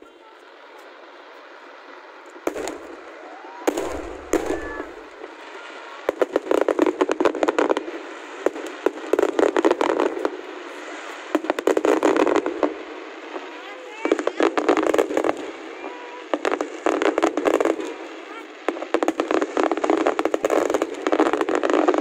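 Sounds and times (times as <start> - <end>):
fireworks crackling: 0.0 - 22.0
fireworks booming: 2.4 - 22.0.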